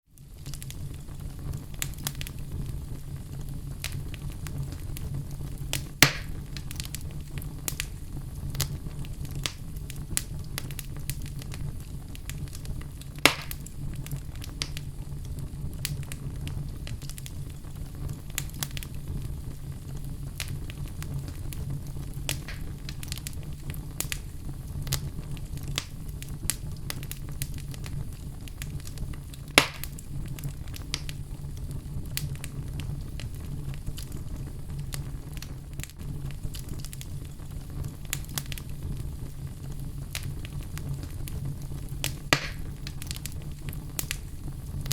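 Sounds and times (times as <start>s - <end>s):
fire crackling: 0.1s - 44.9s
low rumble of flames: 0.1s - 44.9s
sharp fire pops: 0.2s - 44.9s.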